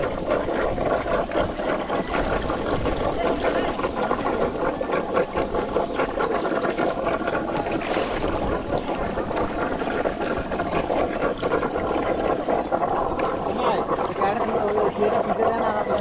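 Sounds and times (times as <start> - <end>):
muddy water sloshing and splashing: 0.0 - 16.0
steady hum: 0.0 - 16.0.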